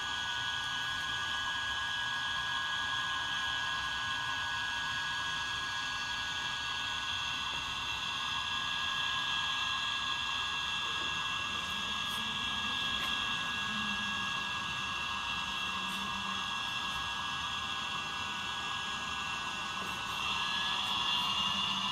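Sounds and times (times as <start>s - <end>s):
steam turbine hiss and whine: 0.0s - 21.9s.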